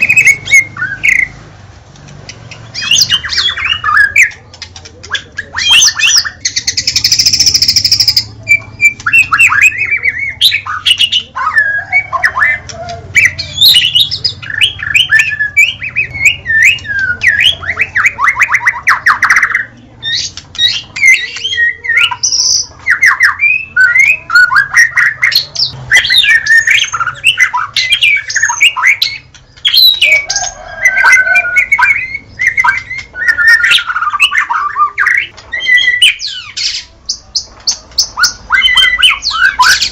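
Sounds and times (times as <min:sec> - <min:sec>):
songbird singing whistled phrases: 0:02.4 - 0:04.4, 0:05.1 - 0:39.9.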